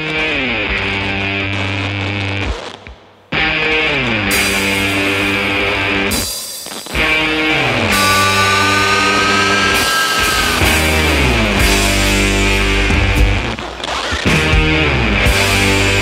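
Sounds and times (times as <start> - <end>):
rock guitar music: 0.0 - 16.0.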